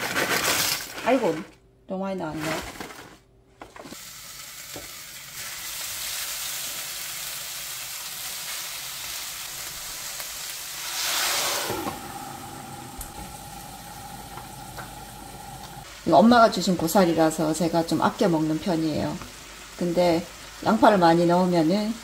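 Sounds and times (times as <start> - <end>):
vegetables sizzling in a frying pan: 4.0 - 22.0.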